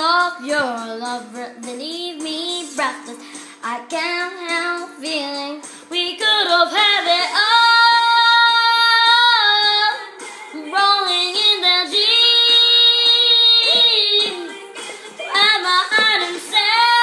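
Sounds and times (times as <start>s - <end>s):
girl singing pop chorus: 0.0s - 17.0s.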